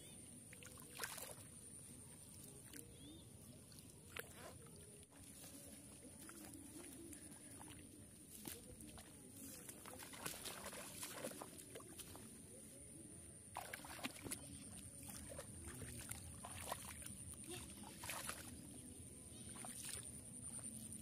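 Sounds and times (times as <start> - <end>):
splashing in shallow muddy water: 0.0 - 21.0.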